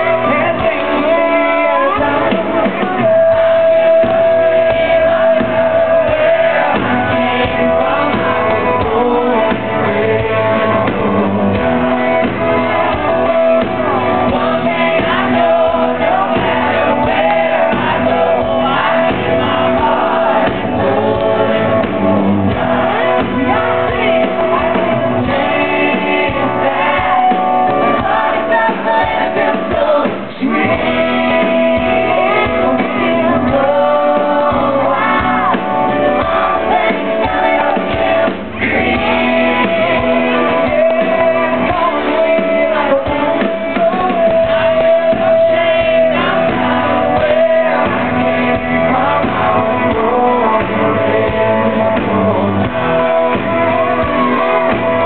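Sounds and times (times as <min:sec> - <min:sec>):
electric guitar: 0:00.0 - 0:55.0
live country band: 0:00.0 - 0:55.0
man and woman singing: 0:00.0 - 0:55.0.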